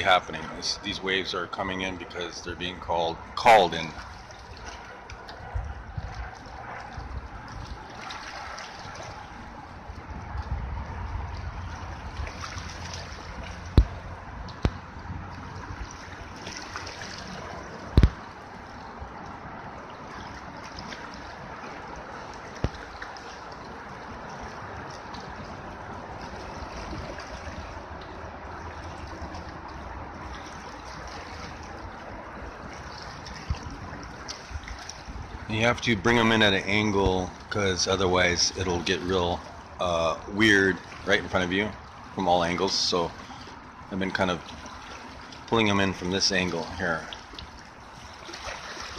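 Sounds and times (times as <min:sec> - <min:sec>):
waves lapping against rocks: 0:00.0 - 0:48.9.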